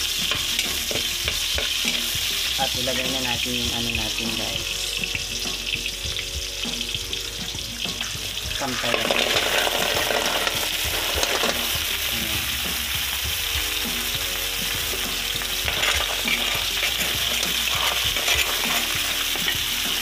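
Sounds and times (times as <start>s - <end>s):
clams sizzling in a pan: 0.0s - 20.0s.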